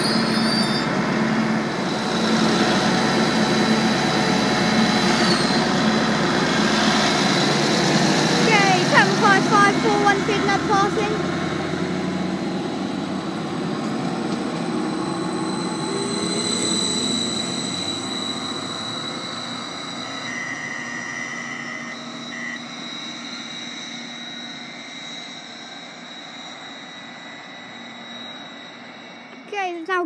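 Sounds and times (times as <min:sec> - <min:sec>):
train rumble with high whine: 0:00.0 - 0:30.0.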